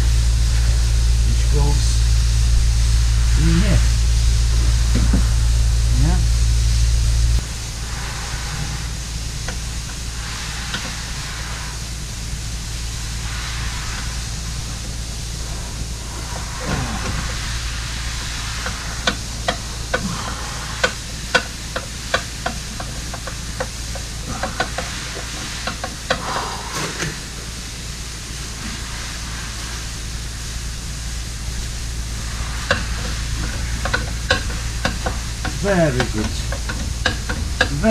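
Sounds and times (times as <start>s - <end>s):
background hum and hiss: 0.0s - 37.9s.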